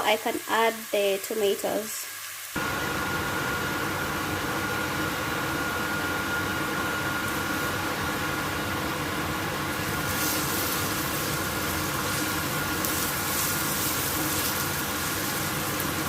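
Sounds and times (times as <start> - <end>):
onions sizzling in oil: 0.0 - 16.0
steady hum: 2.5 - 16.0.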